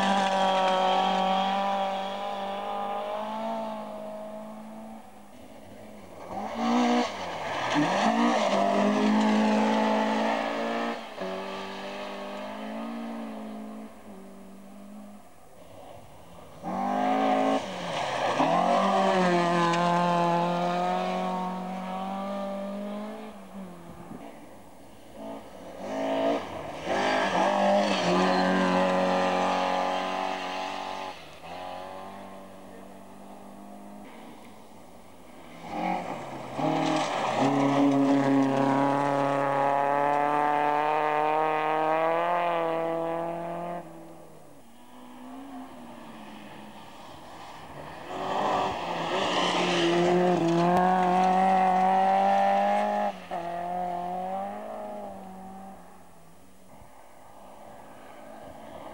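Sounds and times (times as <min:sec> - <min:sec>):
rally car engine at full throttle: 0:00.0 - 0:56.9.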